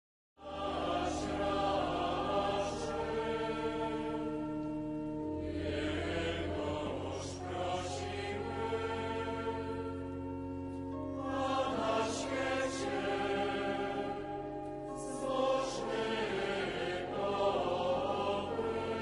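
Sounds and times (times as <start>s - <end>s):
choir singing a slow hymn: 0.4s - 19.0s.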